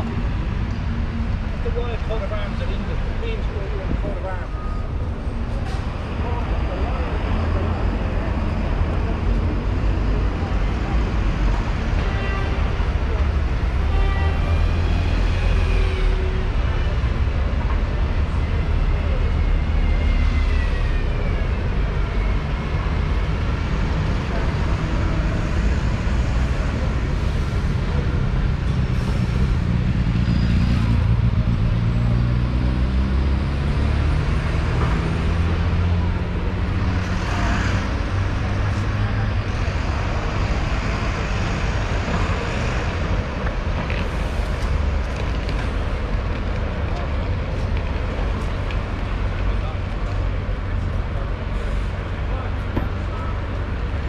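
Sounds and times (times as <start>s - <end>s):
buses and cars passing: 0.0s - 54.0s.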